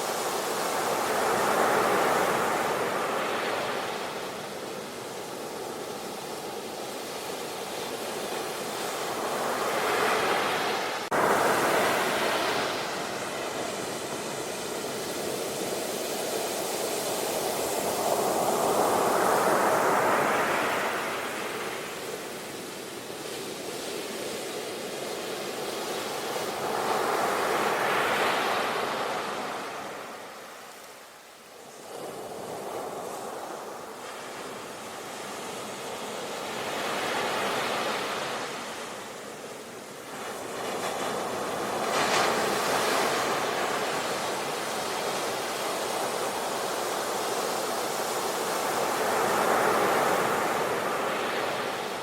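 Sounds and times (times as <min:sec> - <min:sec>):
waves breaking on a beach: 0:00.0 - 0:52.0.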